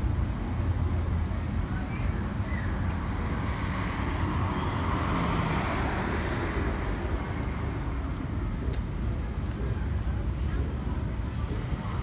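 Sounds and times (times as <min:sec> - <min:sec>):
background traffic: 0:00.0 - 0:12.0.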